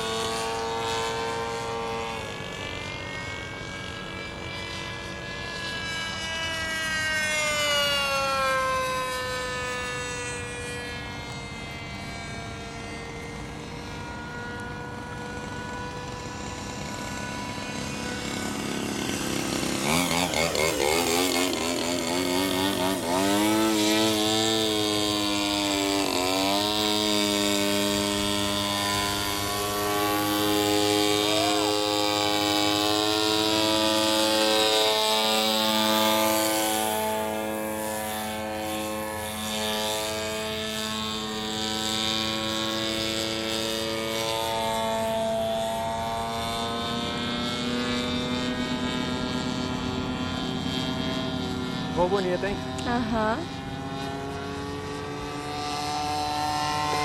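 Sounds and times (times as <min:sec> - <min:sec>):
model airplane engine droning: 0:00.0 - 0:57.0.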